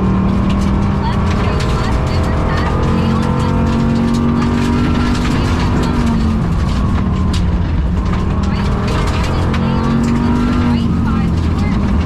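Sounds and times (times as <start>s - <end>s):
rally car engine from cabin: 0.0s - 12.0s.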